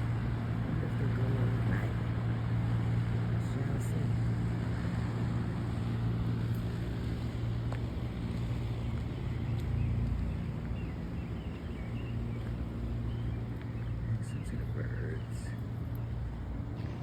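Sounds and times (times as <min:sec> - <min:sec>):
large fan humming: 0:00.0 - 0:17.0.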